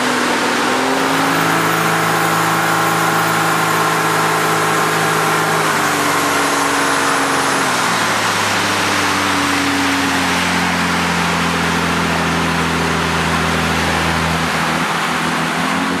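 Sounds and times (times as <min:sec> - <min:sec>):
diesel boat engine running: 0:00.0 - 0:16.0
water rushing: 0:00.0 - 0:16.0.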